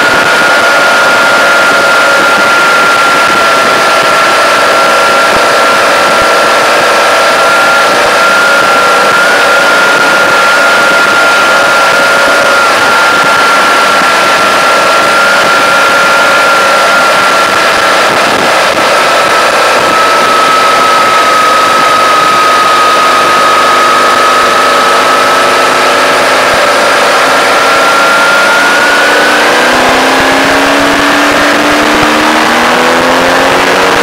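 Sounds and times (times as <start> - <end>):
high whine: 0.0 - 34.0
vehicle engine at road speed: 0.0 - 34.0
wind and road noise: 0.0 - 34.0.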